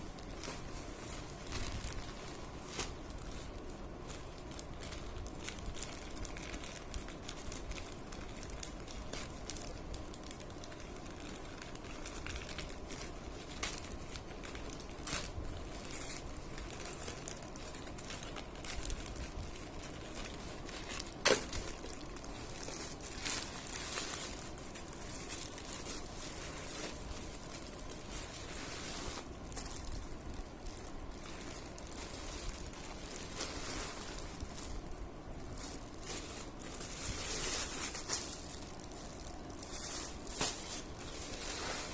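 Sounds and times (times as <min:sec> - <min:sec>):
plastic packaging crinkling: 0:00.0 - 0:41.9.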